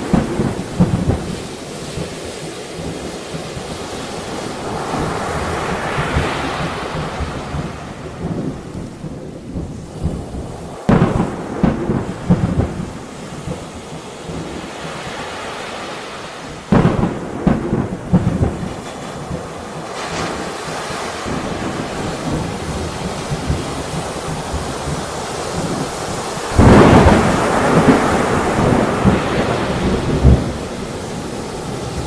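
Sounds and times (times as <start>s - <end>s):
sharp thunderclaps: 0.0s - 32.0s
steady rain: 0.0s - 32.0s
thunder rumbling: 0.0s - 32.0s.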